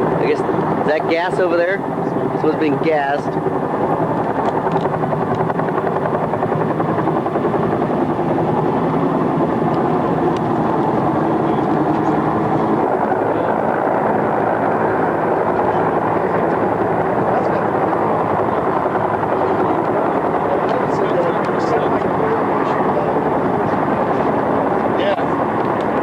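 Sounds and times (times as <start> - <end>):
helicopter rotor beat: 0.0 - 26.0
helicopter turbine noise: 0.0 - 26.0.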